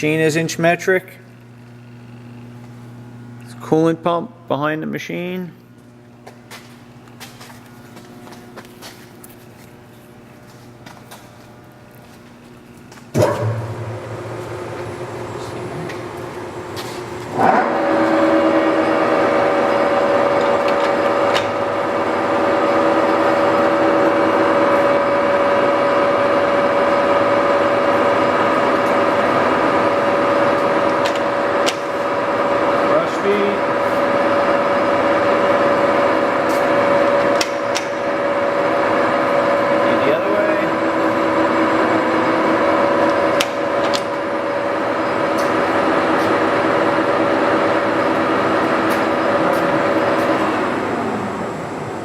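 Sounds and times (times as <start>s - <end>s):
lathe humming and whining: 0.0s - 4.5s, 5.2s - 52.0s.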